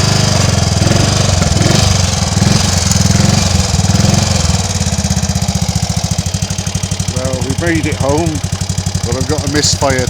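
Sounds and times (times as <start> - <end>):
motorcycle engine idling unevenly: 0.0 - 10.0.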